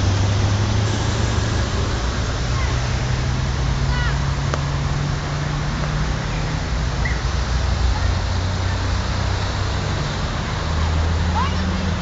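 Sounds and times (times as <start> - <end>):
vehicle engine running low: 0.0 - 12.0
water rushing: 0.0 - 12.0.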